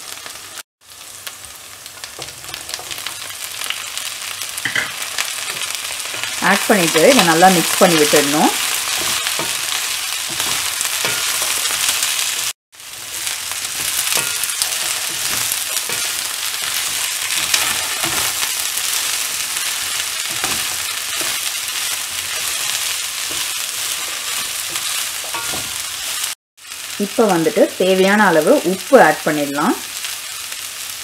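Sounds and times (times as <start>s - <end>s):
vegetables sizzling in hot oil: 0.0s - 31.0s.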